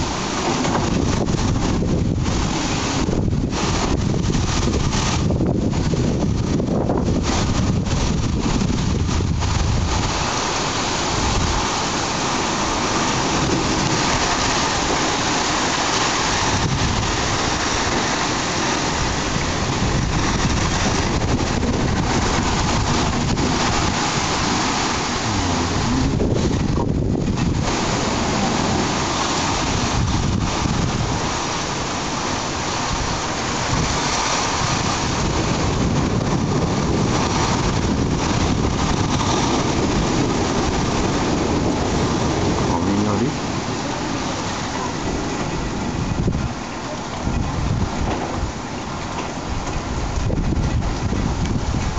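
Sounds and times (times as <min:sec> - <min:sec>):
heavy rain pouring: 0:00.0 - 0:51.9
wind gusts buffeting microphone: 0:00.0 - 0:51.9.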